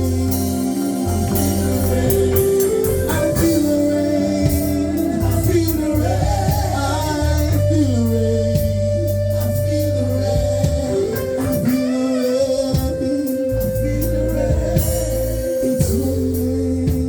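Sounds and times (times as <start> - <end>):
gospel band with bass and guitar: 0.0 - 17.0
person singing: 0.0 - 17.0.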